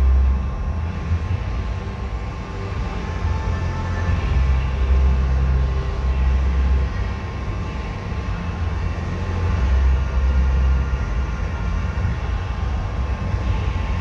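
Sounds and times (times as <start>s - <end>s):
faint steady tones: 0.0s - 14.0s
ventilation fans rumbling: 0.0s - 14.0s.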